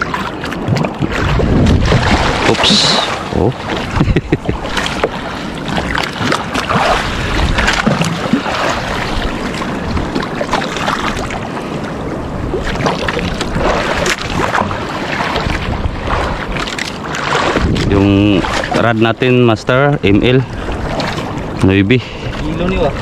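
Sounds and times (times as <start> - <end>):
water sloshing around boat: 0.0 - 23.0
wind buffeting microphone: 0.0 - 23.0.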